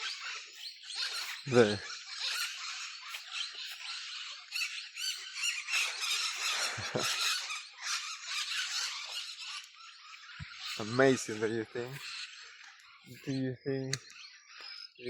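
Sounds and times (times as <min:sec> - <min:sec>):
parrots squawking: 0:00.0 - 0:14.7.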